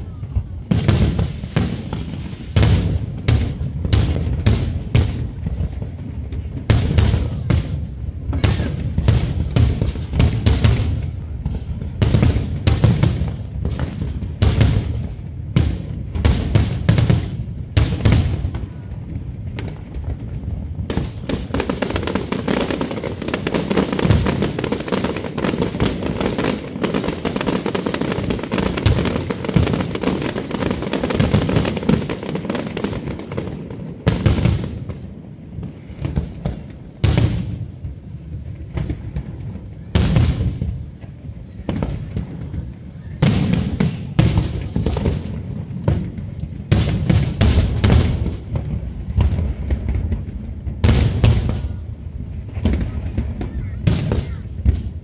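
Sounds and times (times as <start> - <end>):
firework booms: 0.0 - 55.0
firework crackling: 0.0 - 55.0.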